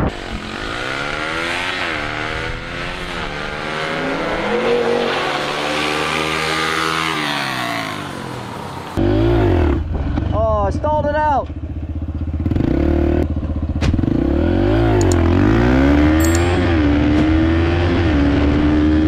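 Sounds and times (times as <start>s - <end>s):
dirt bike engine accelerating: 0.0s - 8.3s, 11.7s - 19.0s.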